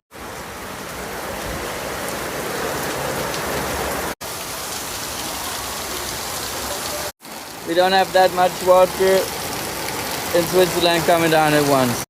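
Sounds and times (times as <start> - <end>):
heavy rain pouring: 0.1 - 12.0.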